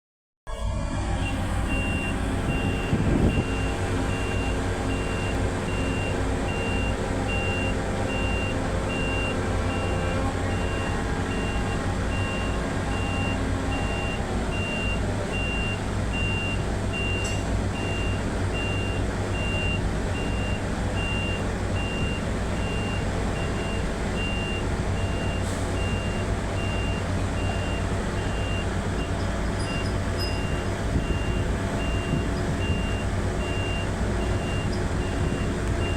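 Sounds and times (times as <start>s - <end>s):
engine running: 0.5s - 35.9s.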